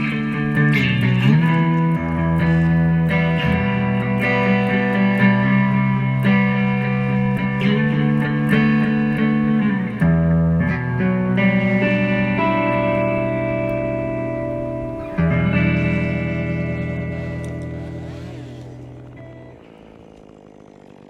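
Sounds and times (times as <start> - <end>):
guitar background music: 0.0 - 20.0.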